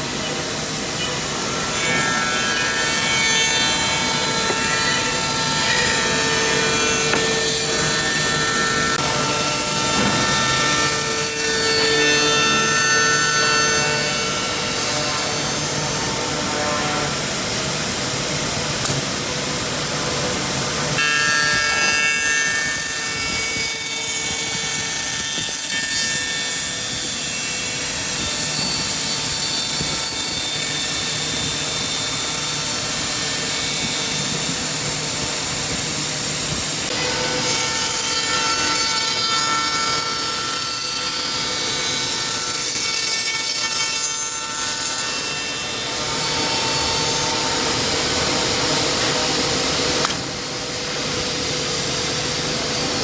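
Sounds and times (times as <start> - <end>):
machine cutter spindle whining: 0.0 - 53.0.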